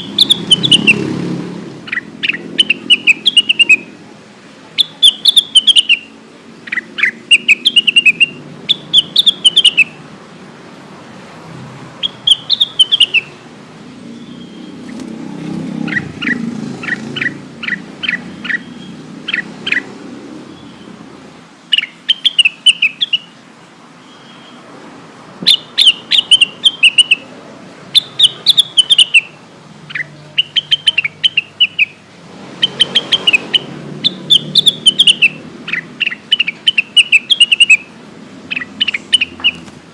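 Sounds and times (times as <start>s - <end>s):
bird singing sharp chirps: 0.0s - 1.2s, 1.8s - 4.0s, 4.8s - 10.0s, 12.0s - 13.4s, 14.0s - 21.0s, 21.7s - 23.4s, 24.0s - 24.7s, 25.4s - 27.3s, 27.9s - 39.6s.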